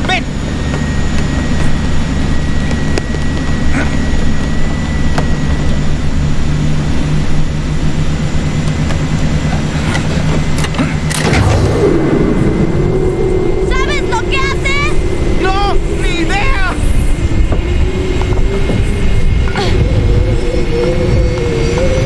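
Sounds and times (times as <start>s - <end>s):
jet airliner drone: 0.0s - 22.0s.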